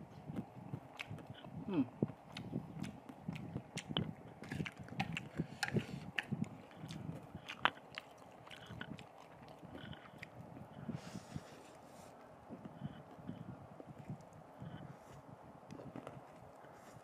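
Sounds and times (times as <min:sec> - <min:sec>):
person chewing noodles: 0:00.1 - 0:17.0.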